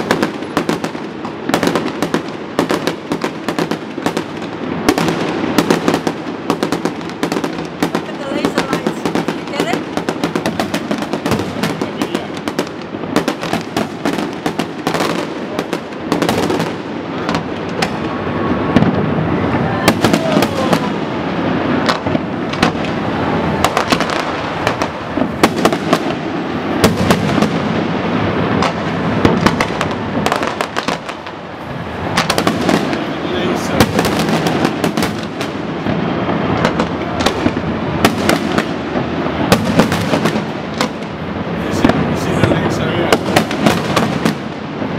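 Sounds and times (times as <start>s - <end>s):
fireworks bangs and crackling: 0.0s - 44.9s
fireworks booms: 0.0s - 44.9s.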